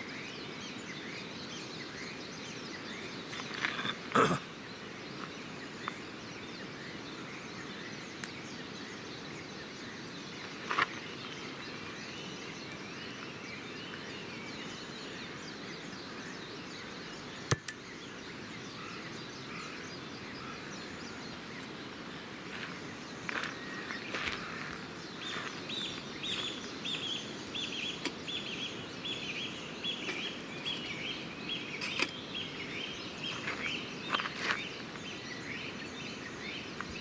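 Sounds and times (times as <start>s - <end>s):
faint bird chirps: 0.0s - 37.0s.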